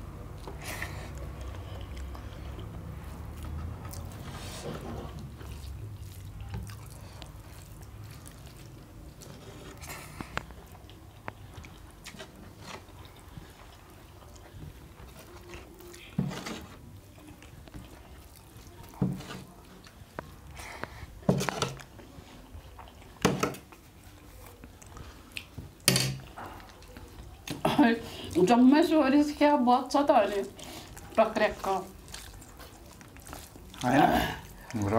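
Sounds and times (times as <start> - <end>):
wet chewing and squishing: 0.0 - 34.9.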